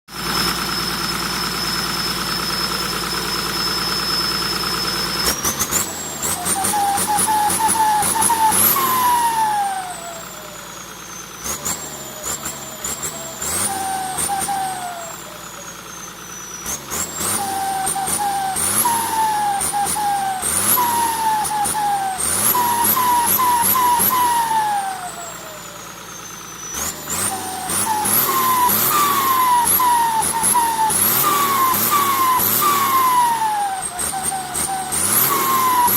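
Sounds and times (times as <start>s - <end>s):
turbocharger whistling: 0.1s - 35.9s
engine revving: 0.2s - 35.9s.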